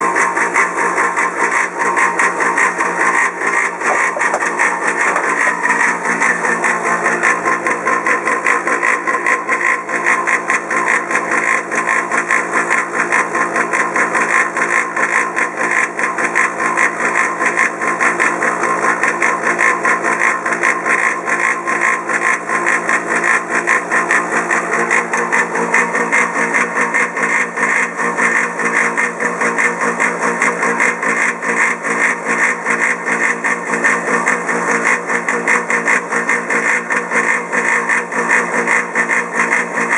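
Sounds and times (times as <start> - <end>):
pump running with a whine: 0.0 - 39.9.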